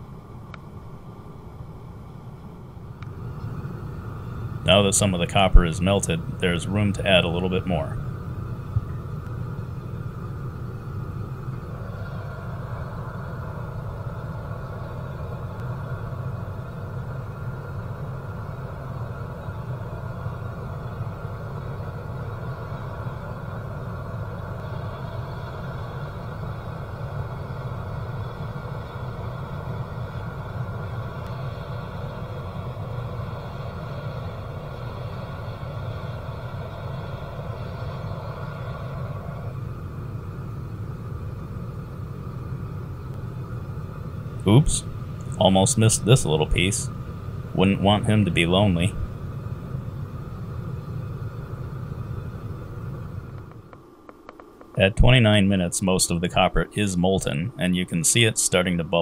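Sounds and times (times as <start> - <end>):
gas burner roaring: 0.0 - 59.0.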